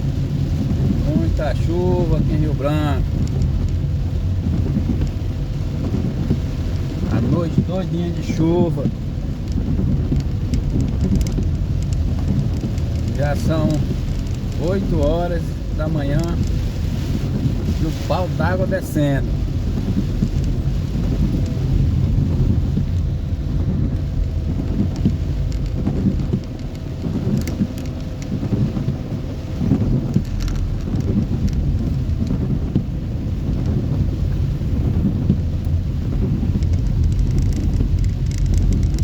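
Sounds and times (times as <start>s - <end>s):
heavy rain falling: 0.0s - 39.0s
low rumble: 0.0s - 39.0s
raindrop ticks: 0.0s - 39.0s.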